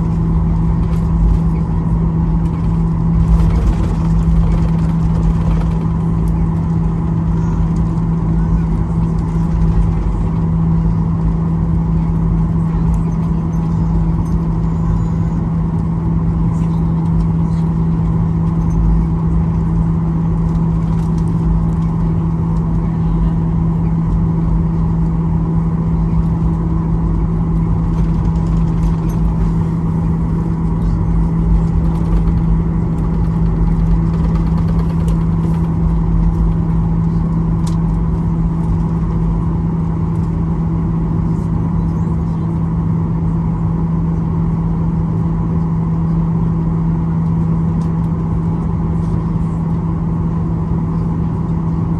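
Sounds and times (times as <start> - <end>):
jet engines inside cabin: 0.0 - 51.9.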